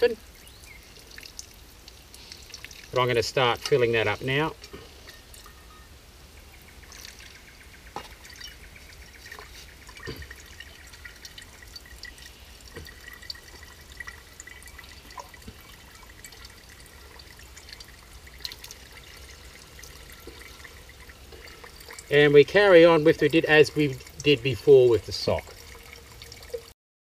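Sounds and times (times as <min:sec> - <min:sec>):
small drip ticks: 0:00.0 - 0:05.8, 0:06.4 - 0:26.7
water trickling into a pot: 0:00.0 - 0:26.8.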